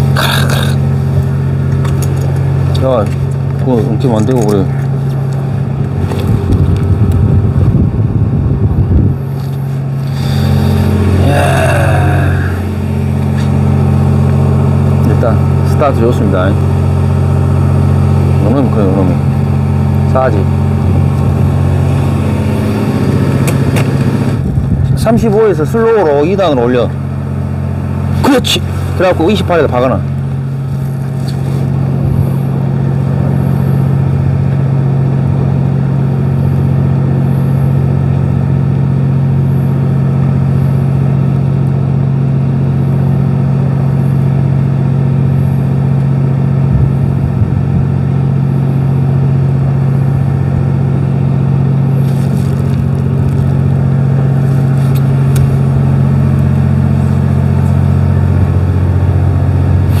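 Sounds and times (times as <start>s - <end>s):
boat engine droning: 0.0s - 60.0s.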